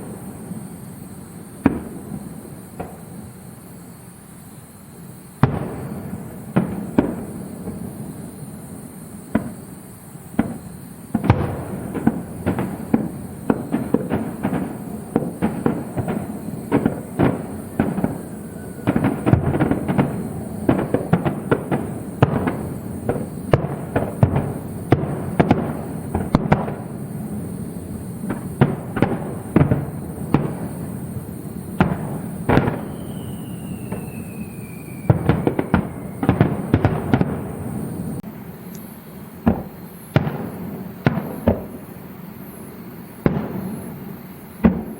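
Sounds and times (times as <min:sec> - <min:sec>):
falling firework whistle: 0:00.0 - 0:44.9
fireworks bursting: 0:00.0 - 0:44.9.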